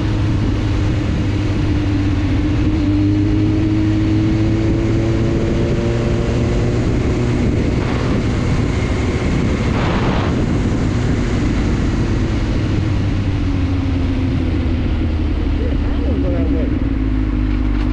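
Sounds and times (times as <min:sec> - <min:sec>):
heavy wind noise: 0:00.0 - 0:17.9
motorcycle engine running: 0:00.0 - 0:17.9.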